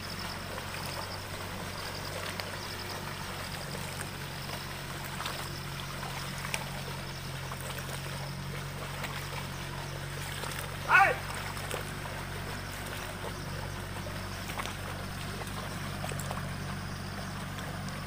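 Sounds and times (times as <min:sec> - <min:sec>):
steady low hum: 0:00.0 - 0:18.0
water sloshing and splashing: 0:00.0 - 0:18.0.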